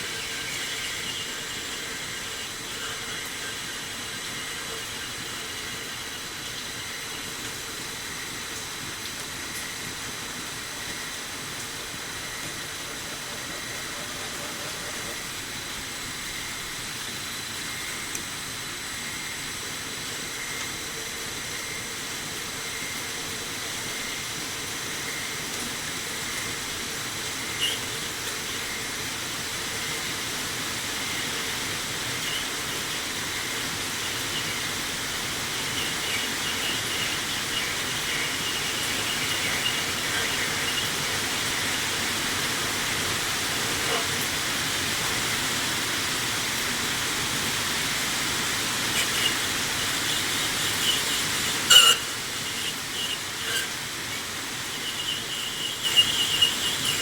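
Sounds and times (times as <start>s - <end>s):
metal lathe hiss and whine: 0.0s - 57.0s.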